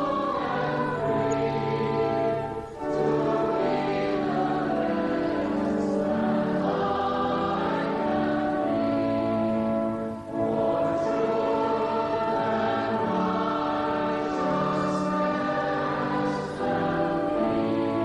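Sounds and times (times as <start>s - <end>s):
church choir singing: 0.0s - 18.0s
organ: 0.0s - 18.0s.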